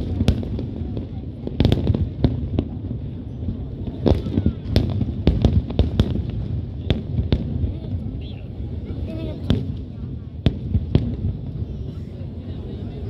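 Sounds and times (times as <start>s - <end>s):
fireworks bangs: 0.0s - 13.0s
low rumble of explosions: 0.0s - 13.0s.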